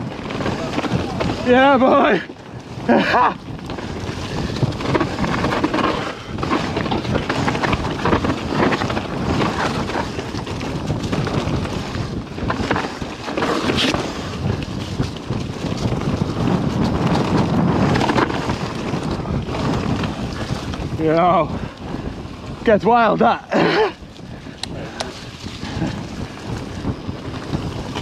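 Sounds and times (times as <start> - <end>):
bike rattling: 0.0 - 28.0
bike tyres rolling over dirt: 0.0 - 28.0
wind on microphone: 0.0 - 28.0.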